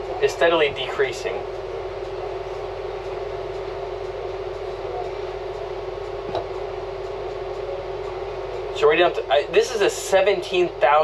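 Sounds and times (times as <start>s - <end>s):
air conditioner humming: 0.0s - 11.0s.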